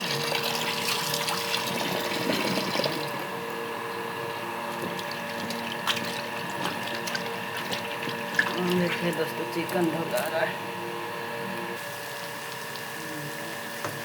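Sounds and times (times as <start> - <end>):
tap water running and splashing: 0.0 - 3.3, 4.7 - 10.5, 11.8 - 14.0.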